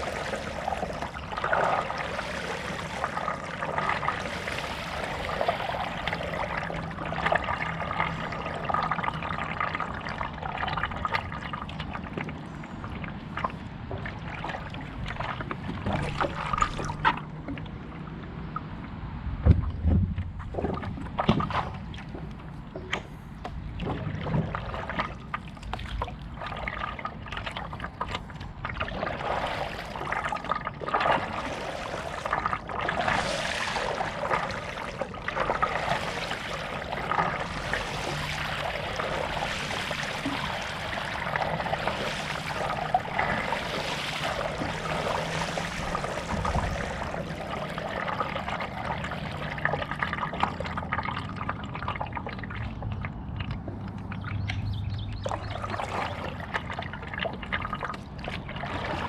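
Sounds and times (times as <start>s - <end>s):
water splashing from paddle strokes: 0.0s - 59.0s.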